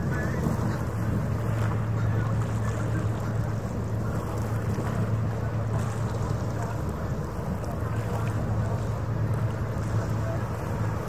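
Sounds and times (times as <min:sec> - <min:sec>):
boat engine droning: 0:00.0 - 0:11.0
wind on microphone: 0:00.0 - 0:11.0.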